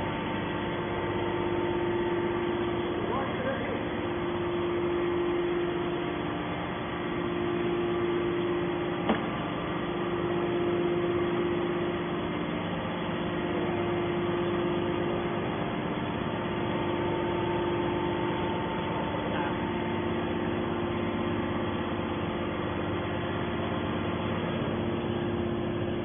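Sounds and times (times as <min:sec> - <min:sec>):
hydraulic pump motor humming: 0:00.0 - 0:26.0.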